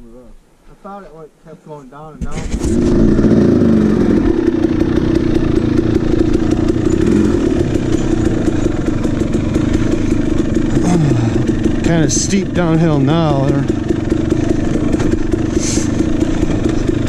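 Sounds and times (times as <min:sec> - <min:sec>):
dirt bike engine running: 0:02.4 - 0:17.0.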